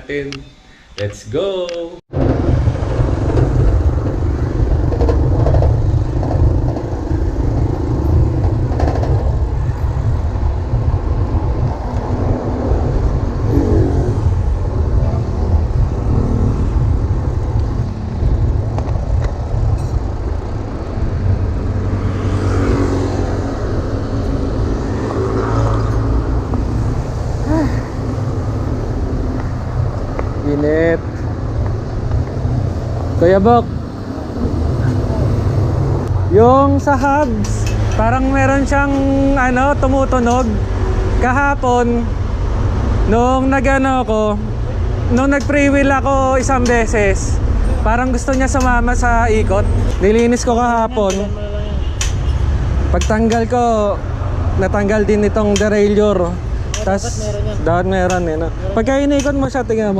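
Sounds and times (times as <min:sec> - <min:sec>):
road traffic noise: 0:00.0 - 0:59.9
wind rumble on microphone: 0:02.1 - 0:59.9.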